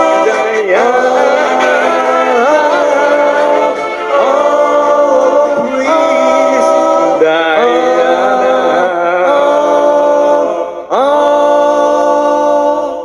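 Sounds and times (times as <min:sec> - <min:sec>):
man singing a cappella harmony: 0:00.0 - 0:13.0.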